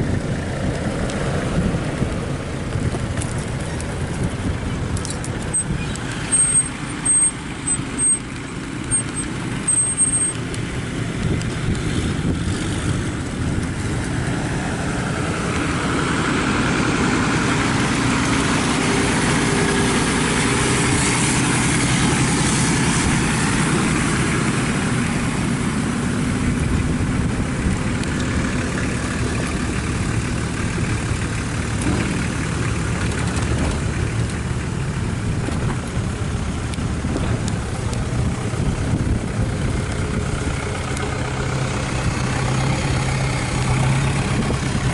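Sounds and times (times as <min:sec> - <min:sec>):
road and wind noise: 0:00.0 - 0:44.9
vehicle engine running: 0:00.0 - 0:44.9.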